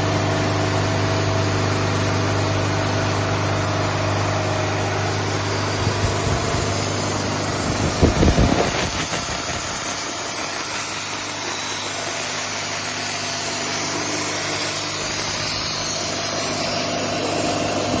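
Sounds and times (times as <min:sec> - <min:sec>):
air compressor humming: 0:00.0 - 0:18.0.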